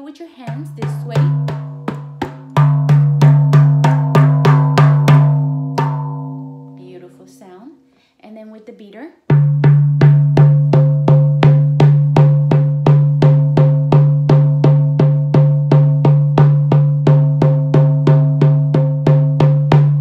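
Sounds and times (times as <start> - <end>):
hand drum beaten steadily: 0.4 - 6.7, 9.3 - 20.0.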